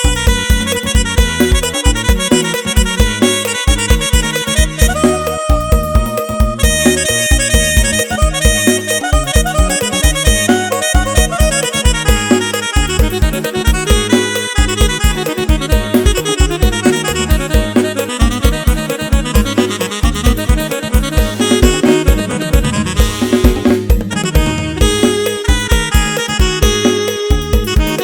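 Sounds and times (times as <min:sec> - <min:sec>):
electronic organ dance music: 0:00.0 - 0:28.0
heavy bass drum beat: 0:00.0 - 0:28.0.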